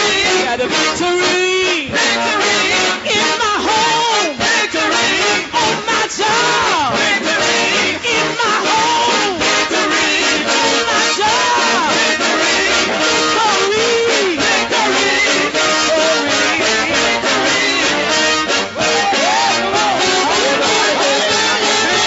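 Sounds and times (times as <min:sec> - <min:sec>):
band playing praise music: 0:00.0 - 0:22.0.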